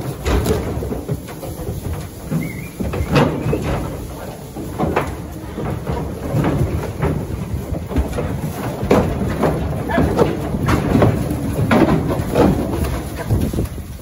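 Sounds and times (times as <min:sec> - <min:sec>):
hooves clattering on metal floor: 0:00.0 - 0:14.0
shuffling rumble: 0:00.0 - 0:14.0.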